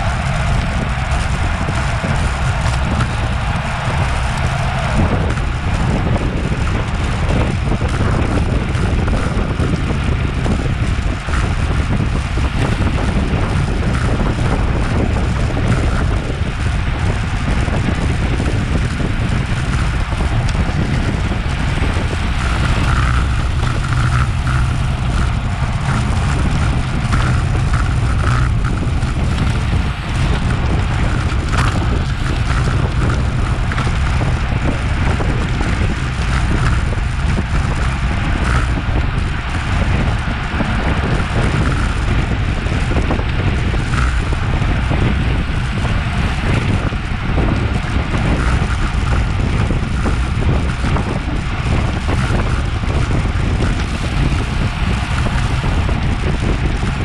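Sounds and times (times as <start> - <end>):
wind rush on microphone: 0.0 - 57.0.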